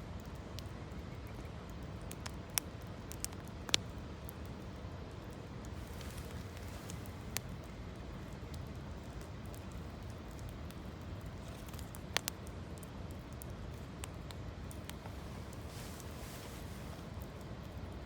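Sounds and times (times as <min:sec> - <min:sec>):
campfire crackling and popping: 0:00.1 - 0:18.0.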